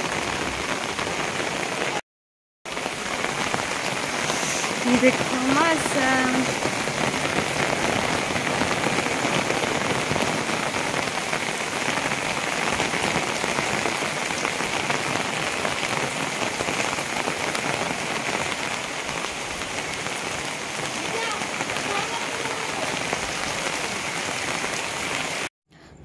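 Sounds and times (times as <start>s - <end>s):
rain on fabric umbrella: 0.0s - 2.0s, 2.7s - 25.5s.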